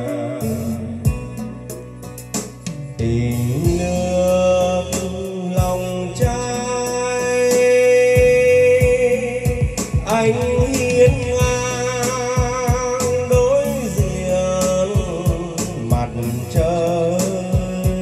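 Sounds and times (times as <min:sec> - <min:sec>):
song over loudspeakers: 0:00.0 - 0:18.0
bass drum hits: 0:00.9 - 0:06.9, 0:07.6 - 0:18.0.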